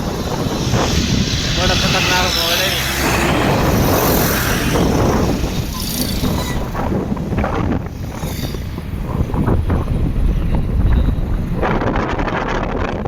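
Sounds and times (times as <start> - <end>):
road noise: 0.0 - 13.0
wind buffeting microphone: 0.0 - 13.0
motorbike engine: 0.1 - 11.9.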